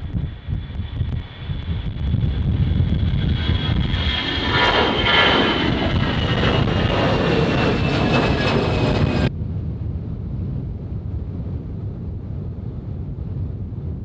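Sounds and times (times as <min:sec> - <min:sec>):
jet engines at takeoff: 0:00.0 - 0:14.0
wind rumble on microphone: 0:00.0 - 0:14.0.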